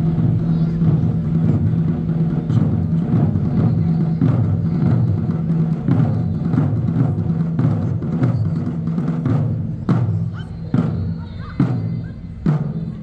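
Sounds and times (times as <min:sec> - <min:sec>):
taiko drums playing: 0:00.0 - 0:13.0.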